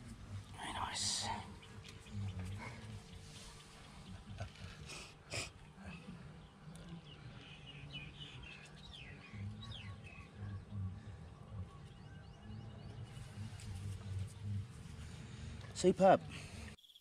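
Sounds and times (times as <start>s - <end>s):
faint low rumble: 0.0s - 16.8s
small birds chirping: 0.0s - 17.0s.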